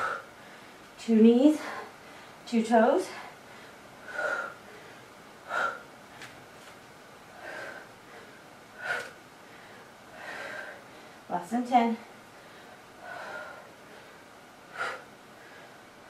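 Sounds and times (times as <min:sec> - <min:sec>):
woman breathing heavily: 0:00.0 - 0:11.3, 0:11.9 - 0:16.0.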